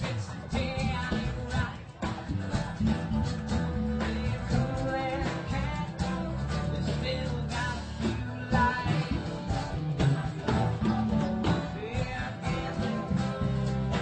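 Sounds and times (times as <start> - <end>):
bass guitar: 0.0 - 14.0
drums: 0.0 - 14.0
electric guitar: 0.0 - 14.0.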